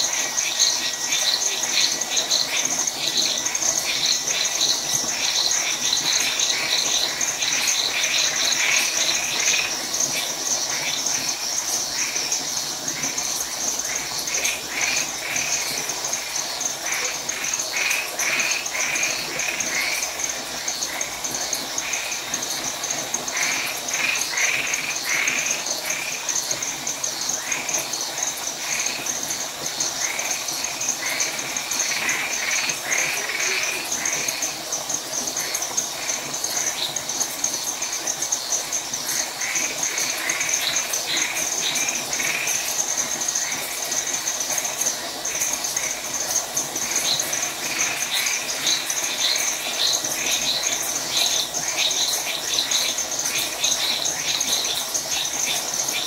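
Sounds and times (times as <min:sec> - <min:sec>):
crickets trilling: 0:00.0 - 0:56.0
frogs calling: 0:00.0 - 0:56.0.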